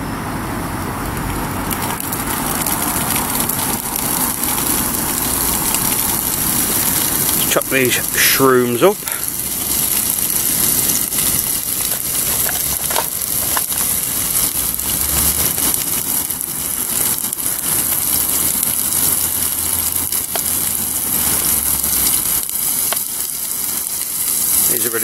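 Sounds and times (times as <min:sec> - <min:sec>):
sausages sizzling in a pan: 0:01.6 - 0:25.0.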